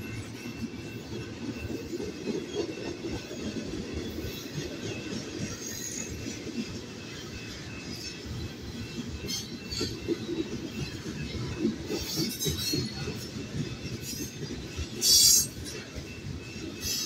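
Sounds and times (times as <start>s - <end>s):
faint high wheel squeal: 0.0s - 17.0s
train wheels rumbling on rail: 0.0s - 17.0s.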